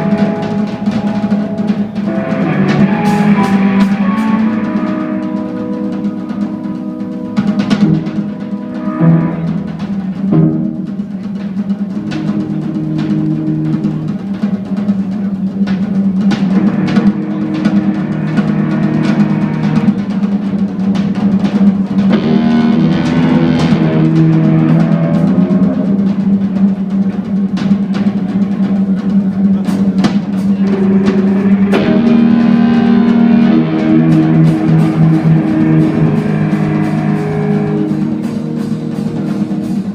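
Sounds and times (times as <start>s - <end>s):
drum kit rolls: 0.0s - 39.9s
jazz-rock band playing: 0.0s - 39.9s.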